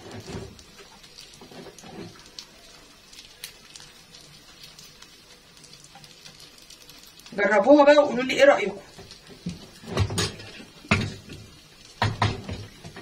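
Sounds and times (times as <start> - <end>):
bread frying in a pan: 0.0 - 13.0.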